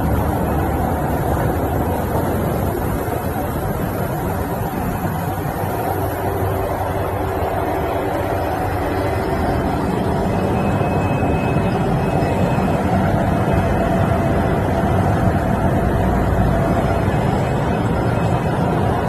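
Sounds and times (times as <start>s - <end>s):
faint steady tones: 0.0s - 19.0s
industrial washer running: 0.0s - 19.0s.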